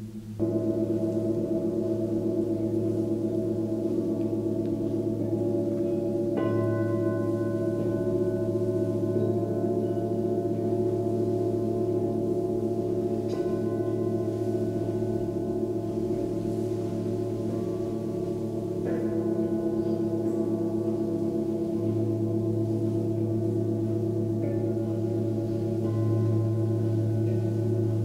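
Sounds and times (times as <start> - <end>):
deep bowl tone: 0.0 - 28.0
singing bowls ringing: 0.0 - 28.0
soft strikes on singing bowl: 0.4 - 28.0.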